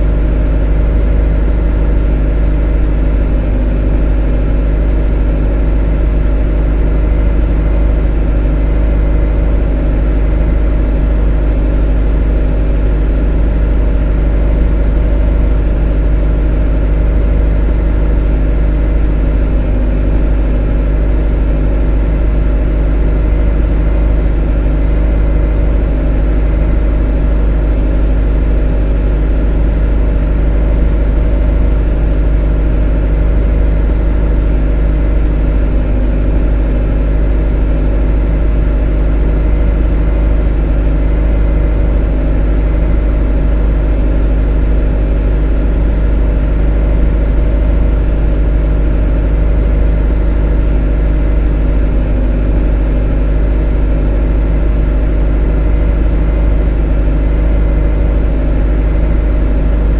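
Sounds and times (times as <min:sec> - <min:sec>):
motor humming: 0:00.0 - 0:59.9.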